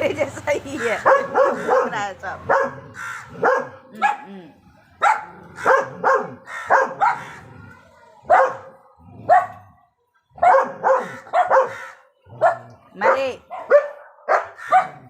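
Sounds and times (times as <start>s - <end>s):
dogs barking: 0.8s - 4.3s, 5.0s - 15.0s.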